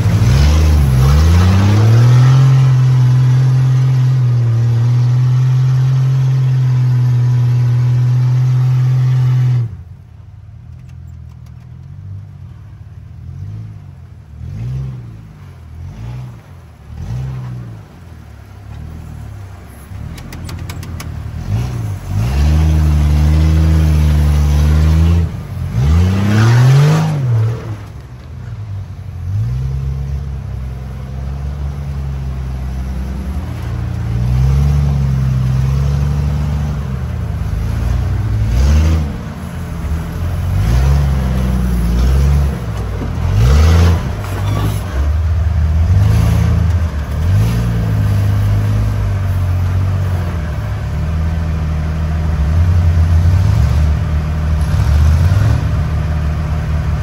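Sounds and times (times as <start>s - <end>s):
off-road vehicle engine revving: 0.0s - 10.2s, 11.4s - 57.0s.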